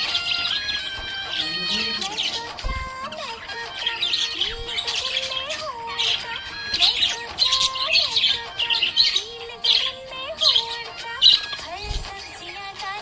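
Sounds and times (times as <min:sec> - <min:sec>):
background music: 0:00.0 - 0:13.0
budgerigars chirping and squawking: 0:00.0 - 0:13.0.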